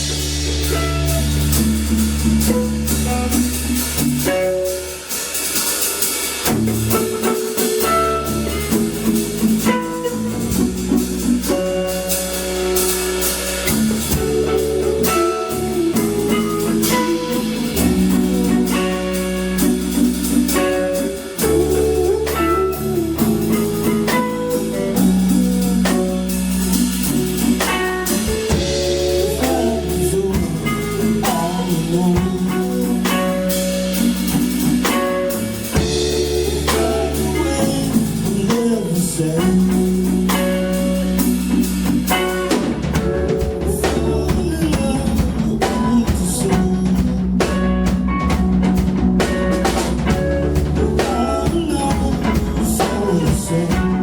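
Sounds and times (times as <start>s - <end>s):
bass guitar notes: 0.0s - 54.0s
drum kit: 0.0s - 54.0s
guitar: 0.0s - 54.0s.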